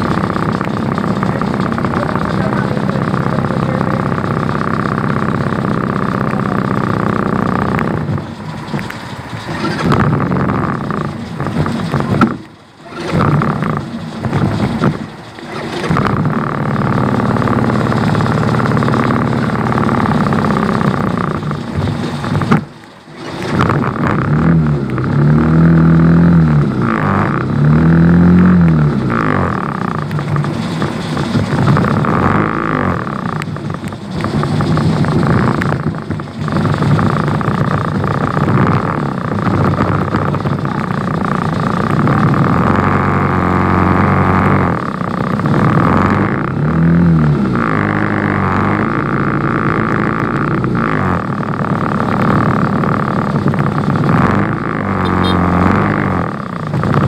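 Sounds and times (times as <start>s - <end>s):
engine revving: 0.0s - 57.0s
vehicle engines idling in traffic: 0.0s - 57.0s.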